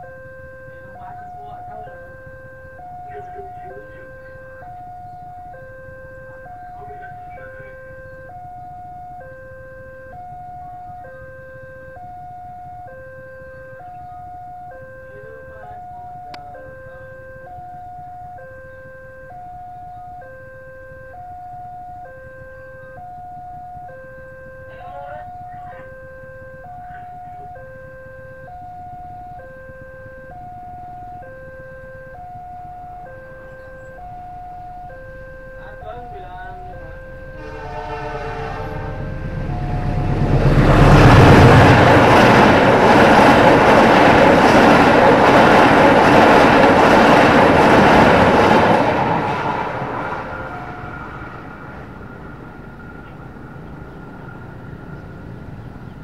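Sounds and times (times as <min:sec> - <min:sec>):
level crossing two-tone alarm: 0:00.0 - 0:51.0.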